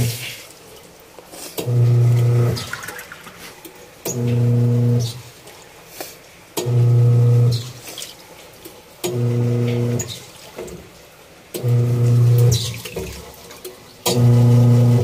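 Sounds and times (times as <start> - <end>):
washing machine motor humming: 0.0 - 5.8, 6.4 - 15.0
water sloshing in tub: 0.0 - 15.0.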